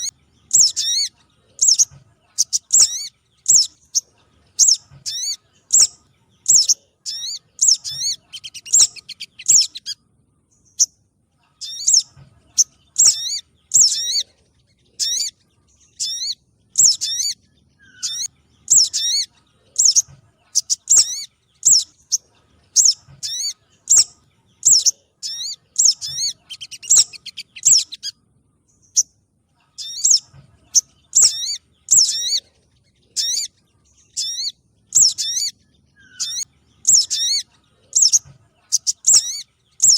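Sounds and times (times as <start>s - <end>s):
recorded bird chirps and trills: 0.0s - 39.9s.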